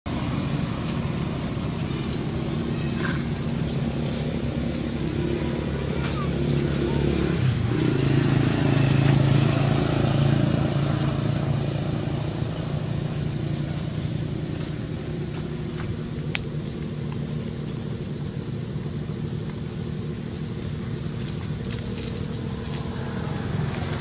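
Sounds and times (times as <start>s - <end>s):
motor hum: 0.1s - 24.0s.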